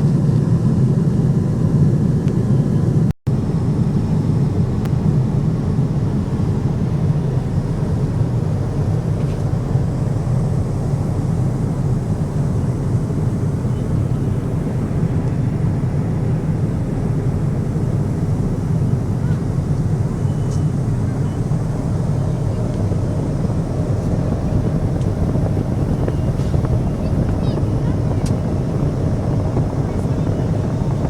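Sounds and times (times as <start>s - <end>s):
airliner cabin drone: 0.0s - 31.0s.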